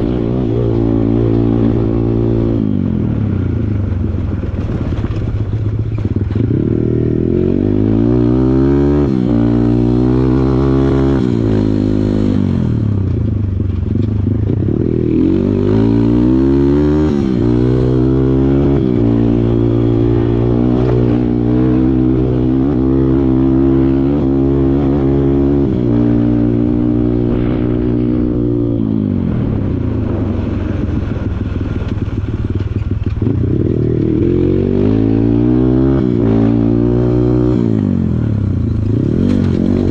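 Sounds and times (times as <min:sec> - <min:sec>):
dirt bike engine revving: 0:00.0 - 0:03.7, 0:06.1 - 0:13.1, 0:14.3 - 0:39.9.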